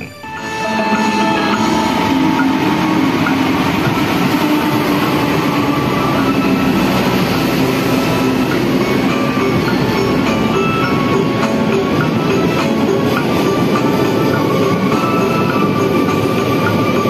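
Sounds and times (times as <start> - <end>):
diesel locomotive passing: 0.0 - 17.0
train coaches rolling on rails: 0.0 - 17.0.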